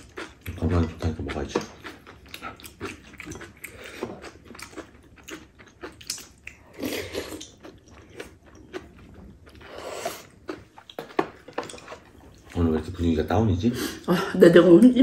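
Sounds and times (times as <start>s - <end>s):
chewing: 0.0s - 13.1s.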